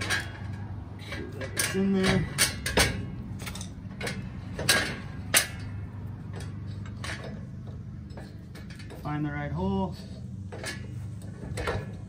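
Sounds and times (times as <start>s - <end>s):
metal clicks and knocks: 0.0s - 9.3s, 10.1s - 12.0s.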